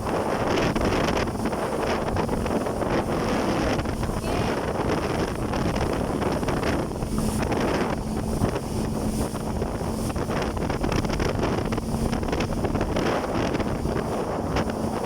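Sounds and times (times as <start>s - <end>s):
low engine hum: 0.0s - 15.0s
wind buffeting microphone: 0.0s - 15.0s.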